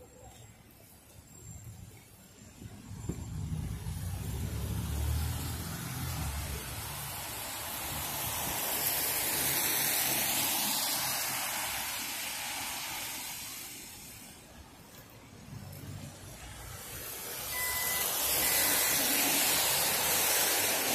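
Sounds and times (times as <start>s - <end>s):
tyres hissing on wet road: 0.9s - 20.9s.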